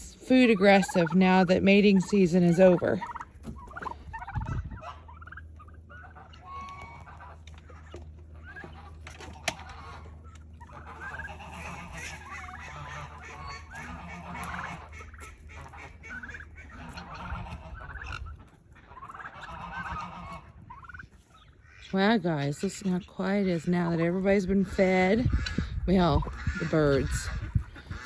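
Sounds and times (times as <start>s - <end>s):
turkeys gobbling: 0.0s - 28.0s.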